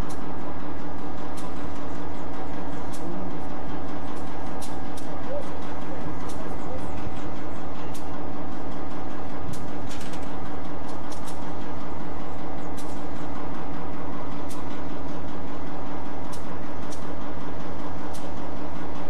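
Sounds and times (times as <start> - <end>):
locomotive engine idling: 0.0 - 19.0.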